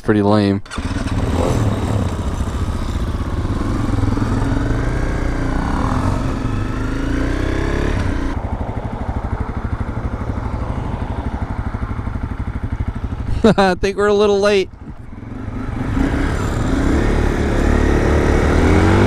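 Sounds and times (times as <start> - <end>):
dirt bike engine revving: 0.6 - 13.7, 14.9 - 19.0.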